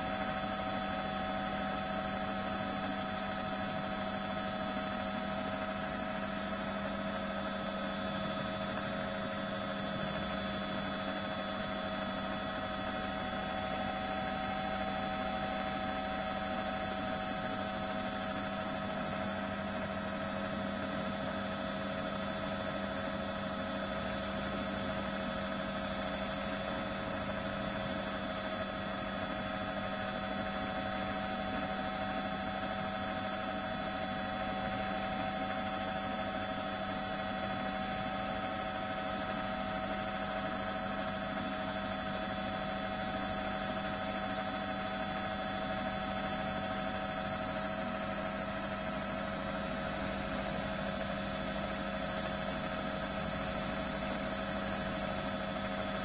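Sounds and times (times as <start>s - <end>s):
helicopter droning in flight: 0.0s - 56.0s.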